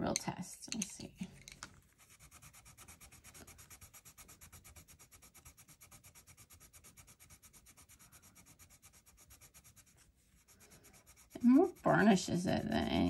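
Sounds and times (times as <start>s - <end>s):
colored pencil scribbling on paper: 1.8s - 13.0s.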